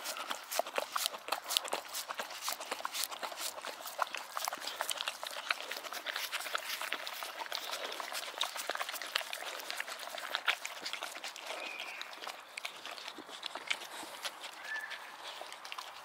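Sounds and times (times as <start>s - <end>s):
dogs licking wet clicks: 0.0s - 16.0s.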